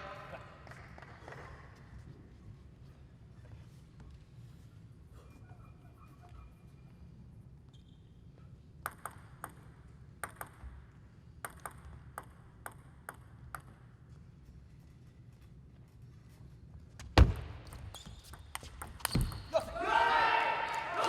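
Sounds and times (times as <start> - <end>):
low hall hum: 0.0 - 21.0.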